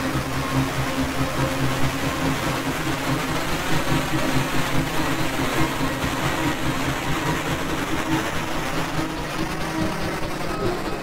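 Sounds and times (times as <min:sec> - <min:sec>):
electronic drone over loudspeakers: 0:00.0 - 0:11.0.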